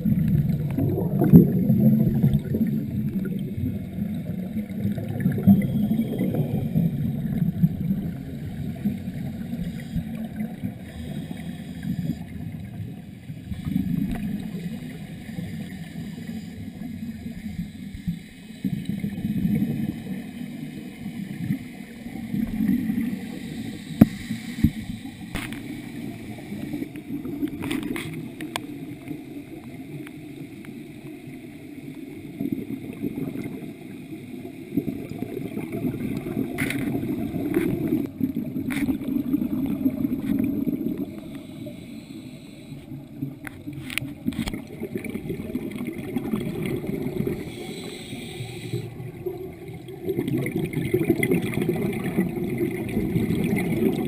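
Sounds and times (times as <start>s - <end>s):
regulator bubbles gurgling underwater: 0.0s - 54.0s.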